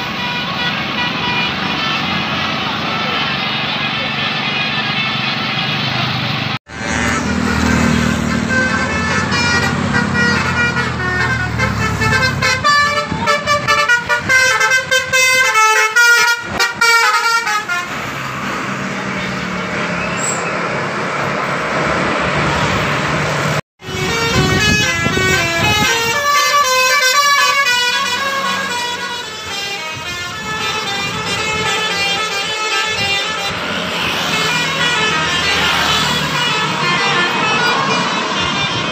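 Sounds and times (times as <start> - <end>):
multi-tone bus horns playing tunes: 0.0 - 20.2, 23.8 - 38.9
heavy vehicle engine rumbling: 0.0 - 38.9.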